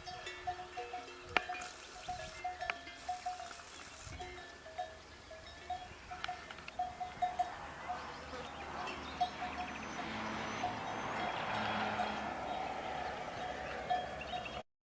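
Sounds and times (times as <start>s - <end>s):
livestock bells clinking: 0.0s - 14.6s.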